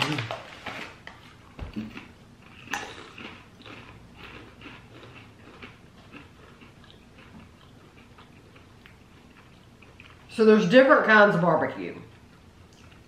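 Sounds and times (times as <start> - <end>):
person chewing crunchy food: 0.0 - 10.3, 12.1 - 13.0.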